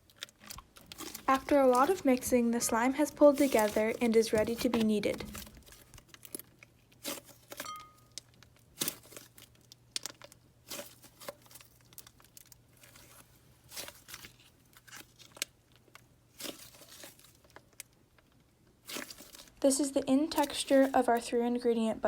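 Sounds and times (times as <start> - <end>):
slime sticky crackles: 0.0 - 21.6.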